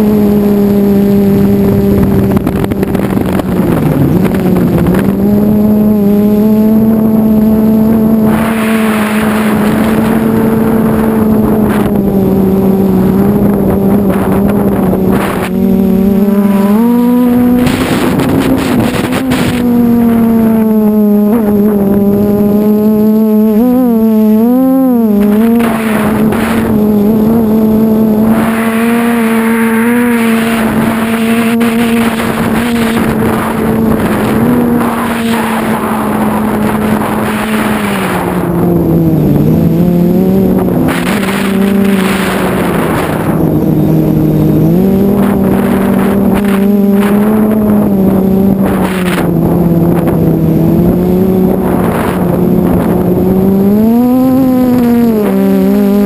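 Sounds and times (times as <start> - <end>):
wind gusts: 0.0 - 56.0
quadcopter motors whining: 7.9 - 56.0.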